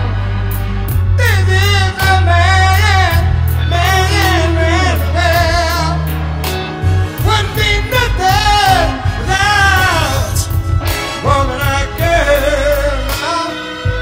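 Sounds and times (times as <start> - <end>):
live band with low bass: 0.0 - 14.0
man singing with vibrato: 1.0 - 14.0.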